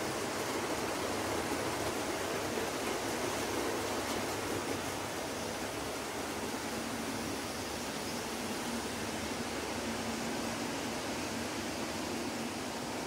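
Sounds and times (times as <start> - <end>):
model train wheels on track: 0.0 - 13.0.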